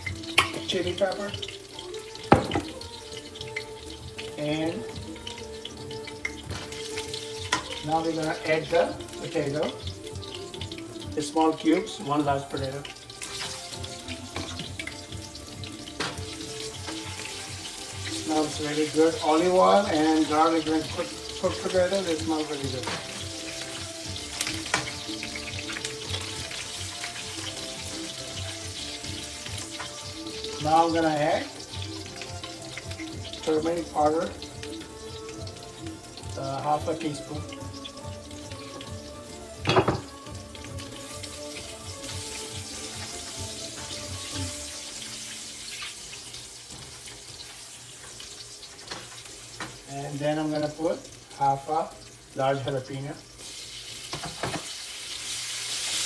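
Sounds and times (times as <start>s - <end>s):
potatoes sizzling in oil: 0.0s - 56.0s.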